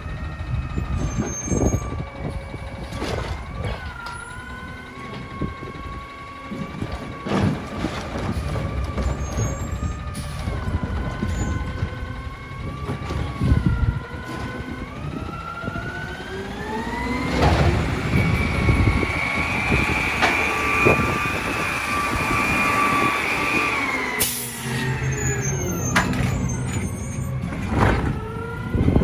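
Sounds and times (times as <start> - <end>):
hydraulic whine: 0.0 - 29.0
truck engine rumble: 0.0 - 29.0.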